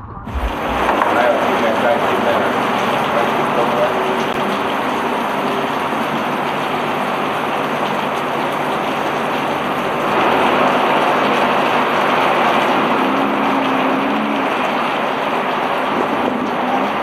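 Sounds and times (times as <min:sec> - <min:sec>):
heavy rain: 0:00.0 - 0:17.0
running water: 0:00.3 - 0:17.0.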